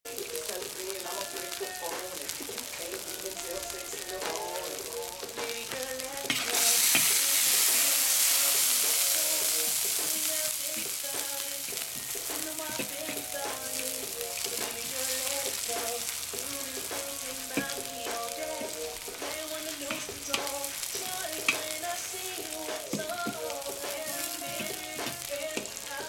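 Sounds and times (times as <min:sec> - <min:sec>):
meat and onions sizzling in oil: 0:00.1 - 0:26.0.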